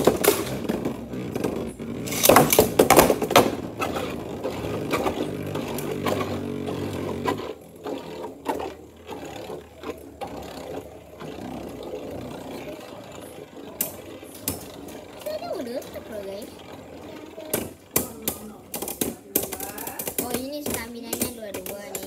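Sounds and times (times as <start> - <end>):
spinning tops whirring and scraping: 0.0 - 22.0.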